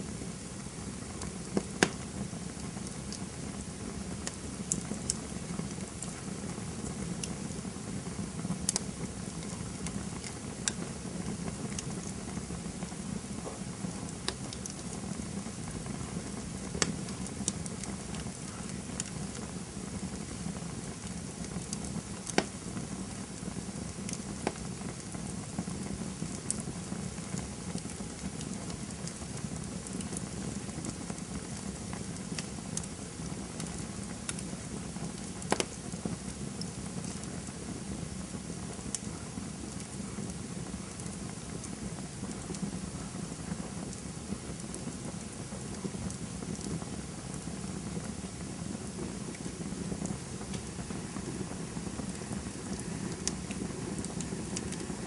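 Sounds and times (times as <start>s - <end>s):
campfire flames rushing: 0.0s - 55.0s
wood crackling and popping: 0.0s - 55.0s.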